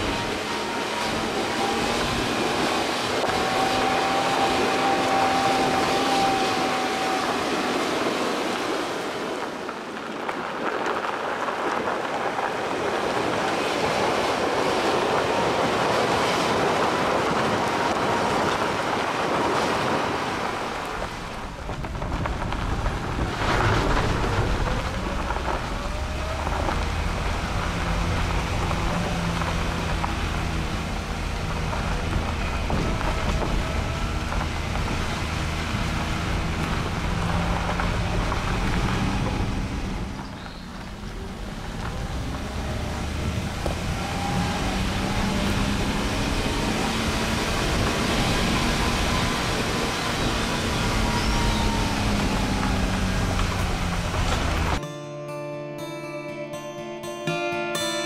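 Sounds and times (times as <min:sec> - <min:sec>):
low engine hum: 0:00.0 - 0:54.8
tyres on loose gravel: 0:00.0 - 0:54.8.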